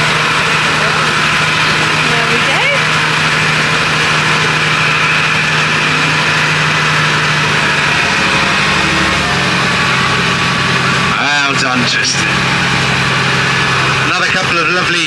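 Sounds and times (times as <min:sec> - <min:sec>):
tractor engine under load: 0:00.0 - 0:15.0.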